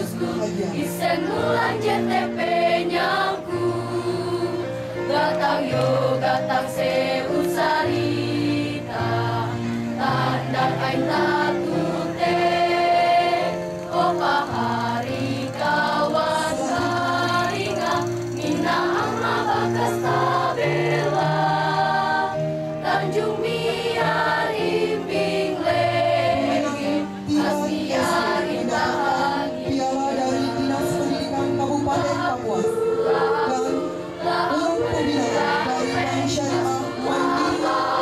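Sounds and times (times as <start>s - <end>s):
choir singing: 0.0s - 38.0s.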